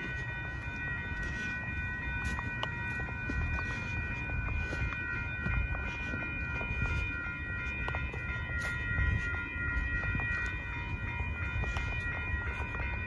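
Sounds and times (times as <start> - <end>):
crossing warning bell ringing: 0.0 - 13.0
steady low rumble: 0.0 - 13.0.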